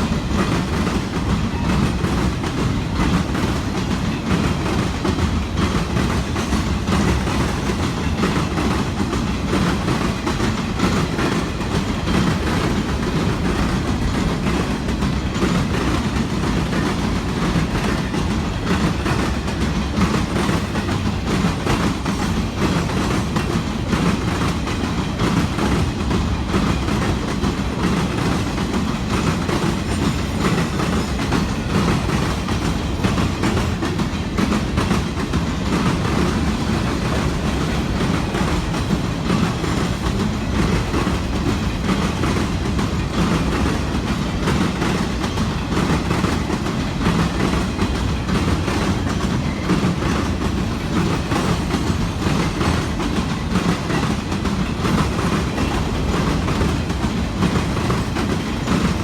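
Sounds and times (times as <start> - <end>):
freight train rumbling: 0.0 - 59.0
train wheel clicks: 0.0 - 59.0.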